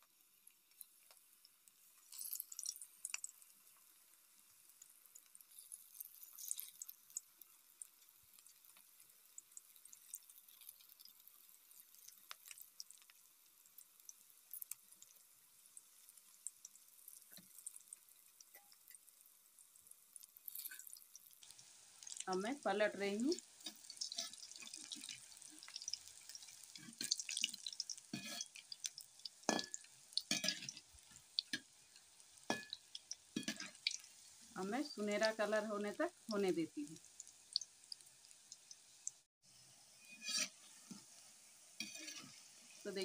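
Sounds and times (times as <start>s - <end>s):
batter sizzling and crackling in oil: 0.0s - 43.0s.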